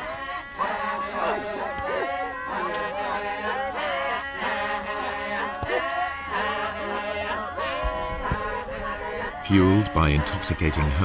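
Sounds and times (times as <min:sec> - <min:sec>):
men chanting in a group: 0:00.0 - 0:11.0.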